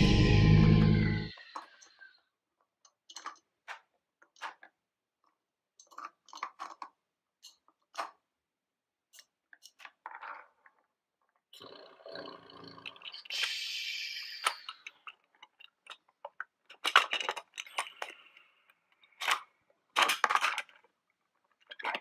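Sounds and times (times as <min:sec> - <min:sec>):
plastic toys clicking and tapping: 0:01.3 - 0:22.0.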